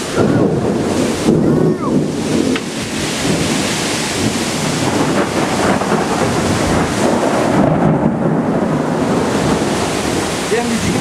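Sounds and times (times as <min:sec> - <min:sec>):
deep thunder rumbling: 0:00.0 - 0:11.0
heavy wind-driven rain: 0:00.0 - 0:11.0.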